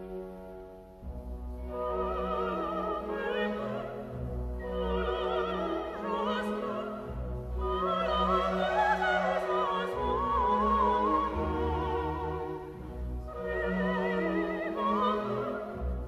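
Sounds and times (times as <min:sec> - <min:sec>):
orchestral accompaniment: 0:00.0 - 0:16.0
opera singer with vibrato: 0:01.7 - 0:16.0.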